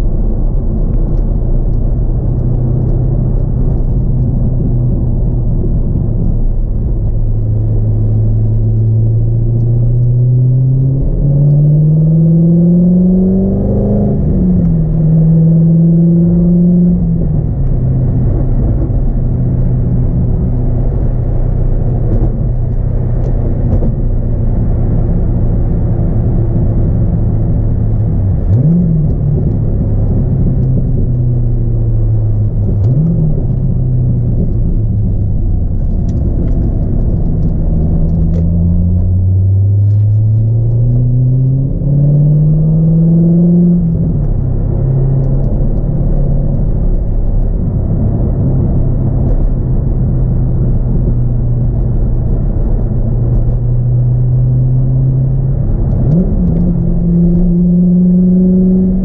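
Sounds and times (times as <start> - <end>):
car engine from inside cabin: 0.0 - 59.0.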